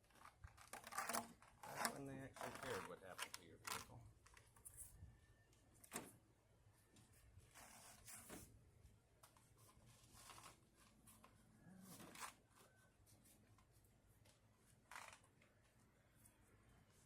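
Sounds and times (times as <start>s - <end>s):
rustles and scrapes of parts: 0.0s - 5.0s, 6.8s - 8.6s, 9.2s - 17.0s.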